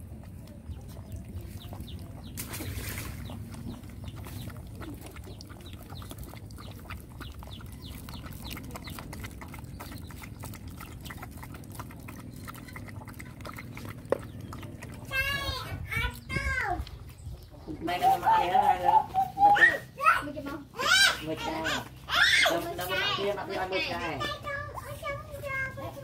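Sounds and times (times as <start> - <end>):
puppies lapping milk: 0.0 - 26.0.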